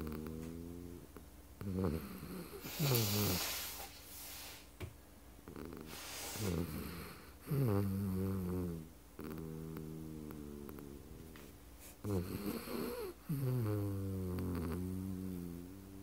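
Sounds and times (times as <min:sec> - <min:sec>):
dog snoring: 0:00.0 - 0:03.9, 0:05.4 - 0:16.0.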